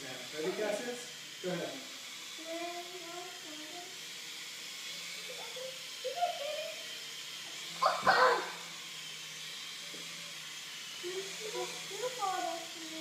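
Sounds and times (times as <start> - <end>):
toy helicopter rotors whirring: 0.0 - 13.0.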